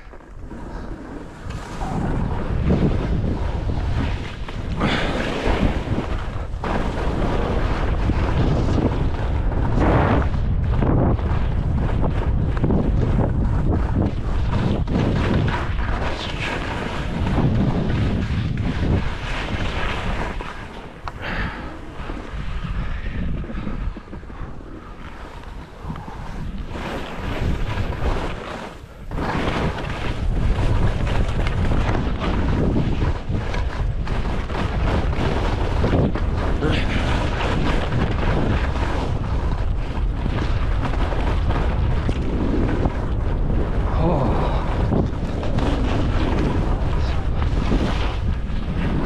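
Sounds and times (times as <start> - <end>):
skis scraping over snow: 0.0 - 49.0
wind buffeting microphone: 0.0 - 49.0.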